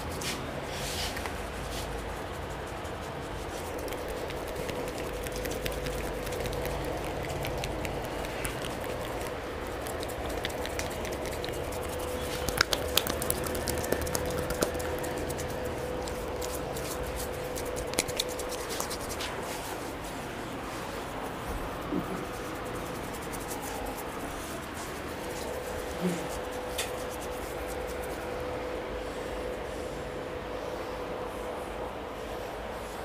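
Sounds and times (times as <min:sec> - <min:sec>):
hands rubbing beard: 0:00.0 - 0:28.4
steady hum: 0:00.0 - 0:33.0.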